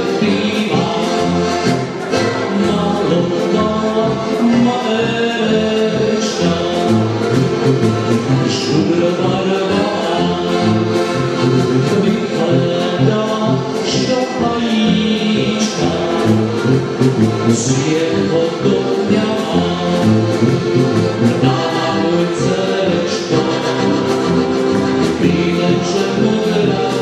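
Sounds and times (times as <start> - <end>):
accordions playing chords: 0.0 - 27.0
tuba bass line: 0.0 - 27.0.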